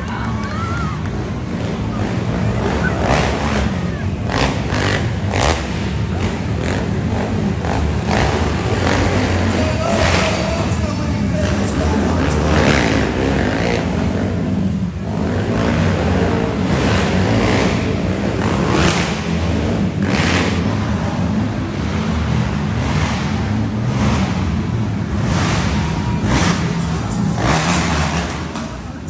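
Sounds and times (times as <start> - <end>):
monster truck engines revving: 0.0 - 29.0.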